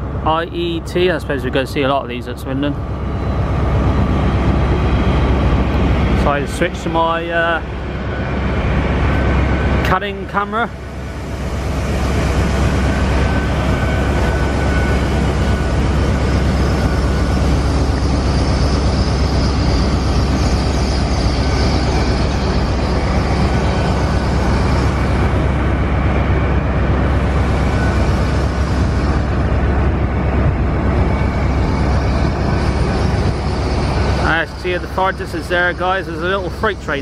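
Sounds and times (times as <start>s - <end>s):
faint steady whine: 0.0s - 37.0s
train wheels rumbling on rails: 0.0s - 37.0s.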